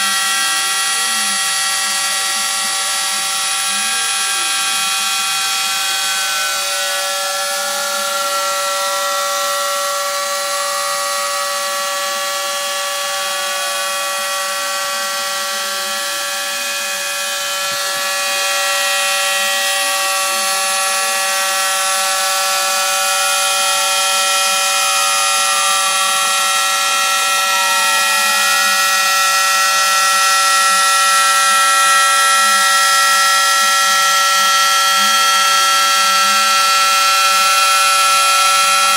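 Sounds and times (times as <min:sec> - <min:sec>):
spindle whining: 0:00.0 - 0:38.9
stepper motors whining: 0:00.0 - 0:38.9.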